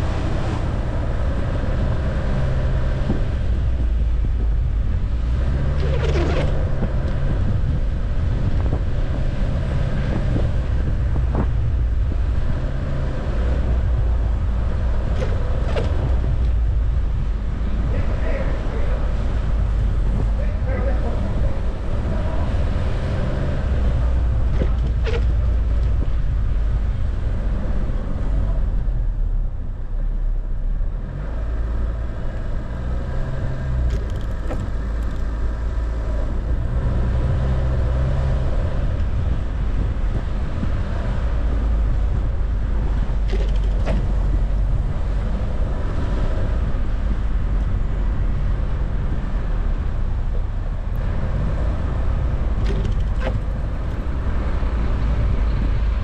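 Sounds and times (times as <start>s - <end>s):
car driving on packed snow: 0.0s - 56.0s.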